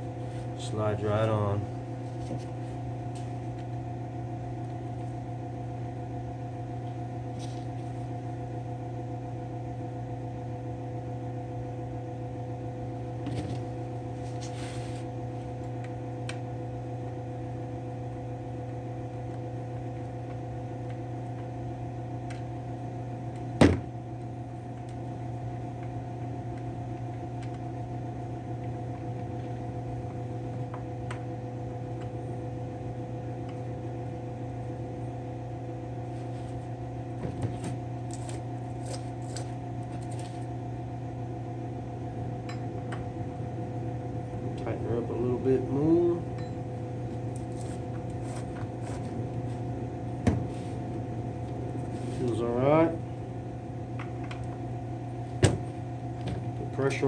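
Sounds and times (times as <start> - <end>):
machine electrical hum: 0.0 - 57.0.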